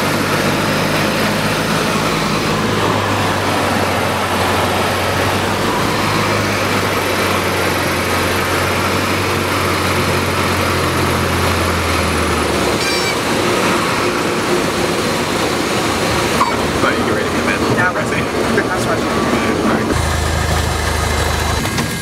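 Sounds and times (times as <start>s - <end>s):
airplane engine and propeller drone: 0.0s - 22.0s.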